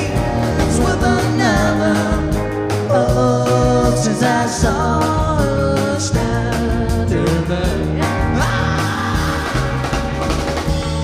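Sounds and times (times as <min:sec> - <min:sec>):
voices singing held notes: 0:00.0 - 0:10.0
drums hitting a steady beat: 0:00.0 - 0:11.0
live pop band playing: 0:00.0 - 0:11.0.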